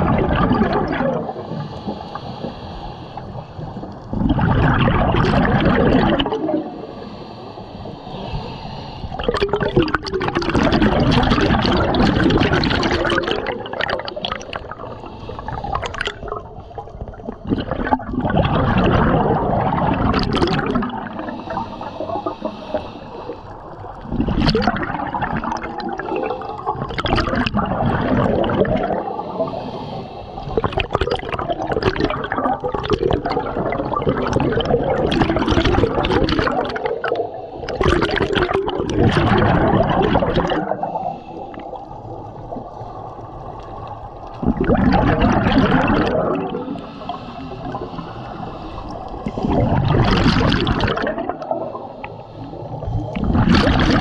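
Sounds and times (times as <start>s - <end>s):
diver's bubbles gurgling: 0.0s - 2.6s, 3.2s - 7.0s, 9.1s - 29.7s, 30.4s - 54.0s.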